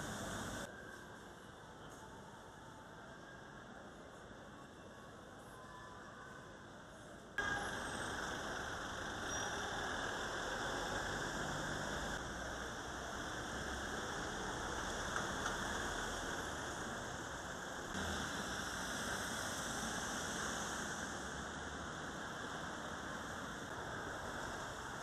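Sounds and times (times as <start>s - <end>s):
street ambience hiss: 0.0s - 25.0s.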